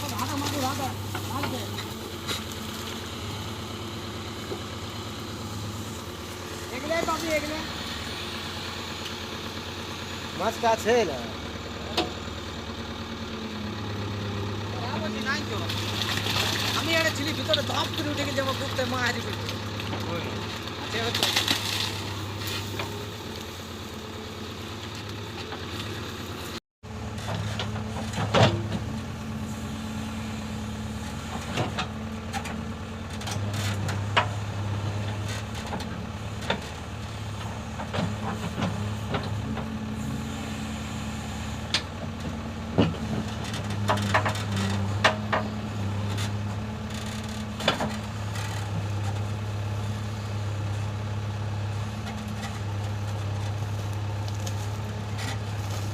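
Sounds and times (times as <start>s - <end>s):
backhoe diesel engine running: 0.0s - 55.9s.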